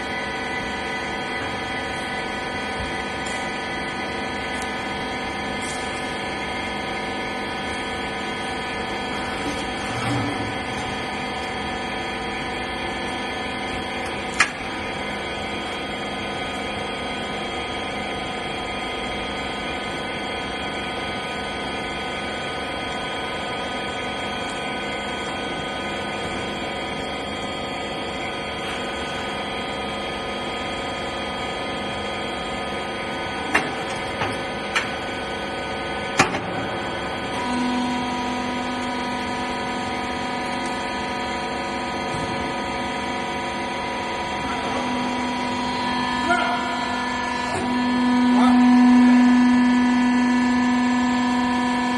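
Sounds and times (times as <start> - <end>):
baler motor and pump hum: 0.0 - 51.9.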